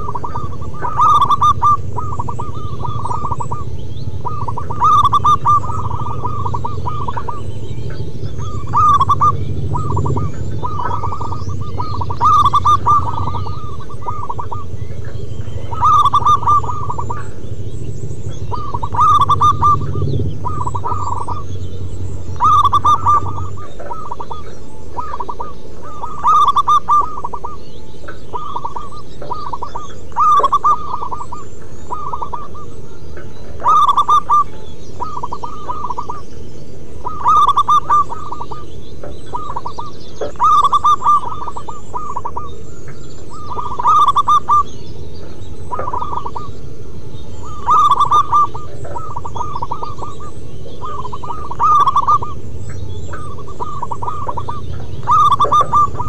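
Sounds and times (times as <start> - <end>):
dove cooing: 0.0 - 56.0
low hum: 0.0 - 56.0.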